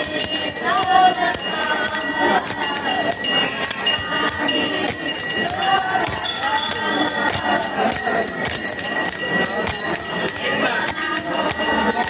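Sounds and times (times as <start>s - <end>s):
crowd voices: 0.0s - 12.0s
metal bells ringing: 0.0s - 12.0s.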